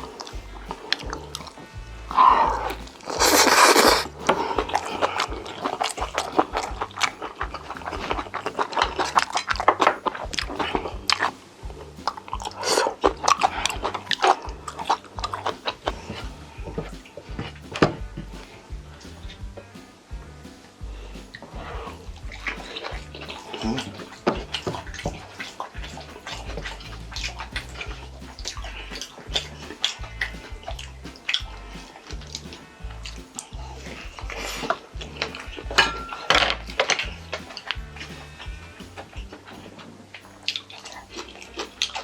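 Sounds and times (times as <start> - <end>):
chewing and smacking: 0.0 - 19.7, 20.9 - 42.0
slurping: 0.0 - 19.7, 20.4 - 42.0.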